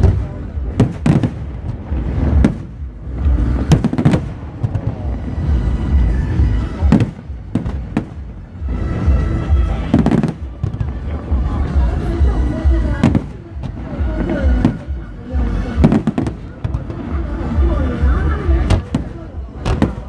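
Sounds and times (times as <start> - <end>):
fireworks bursting: 0.0 - 20.0
music playing: 0.0 - 20.0
steady rumble: 0.0 - 20.0.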